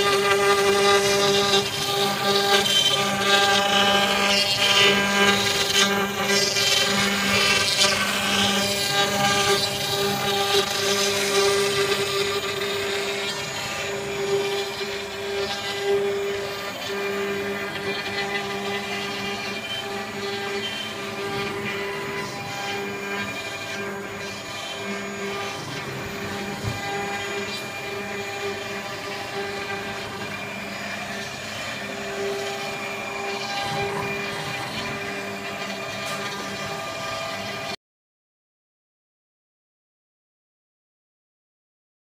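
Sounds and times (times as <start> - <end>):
rough cutting noise: 0.0 - 37.7
router spindle whine: 0.0 - 37.8.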